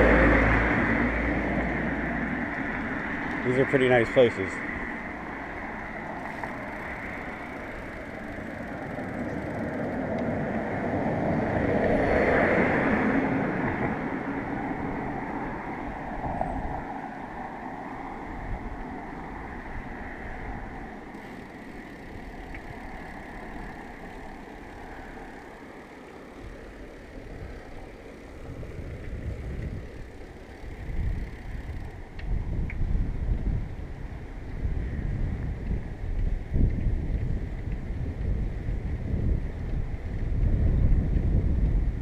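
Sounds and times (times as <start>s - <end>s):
bicycle tyres and wind rushing: 0.0s - 42.0s.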